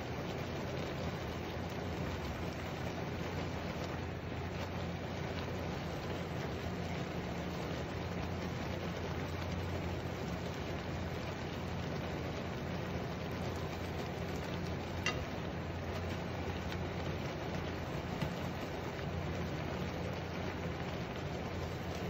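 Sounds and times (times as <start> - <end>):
water simmering in a frying pan: 0.0 - 22.0.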